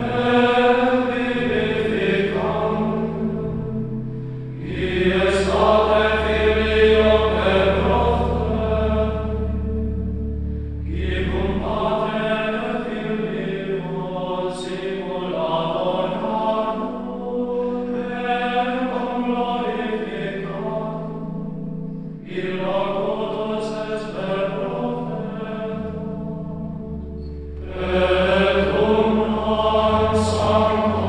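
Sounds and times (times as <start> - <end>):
choir singing a slow chant: 0.0 - 31.0.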